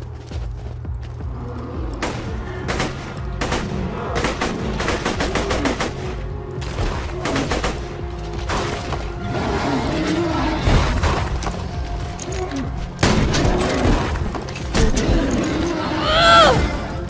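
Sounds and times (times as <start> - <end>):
low game music: 0.0 - 17.0.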